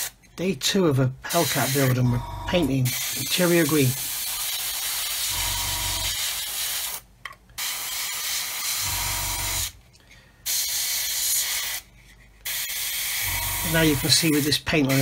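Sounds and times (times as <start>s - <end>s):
airbrush hissing: 1.3s - 7.0s, 7.6s - 9.7s, 10.5s - 15.0s.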